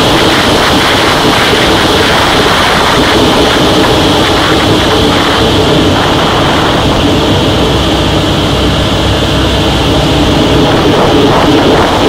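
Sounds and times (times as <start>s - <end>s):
radial engine and propeller drone: 0.0s - 12.0s.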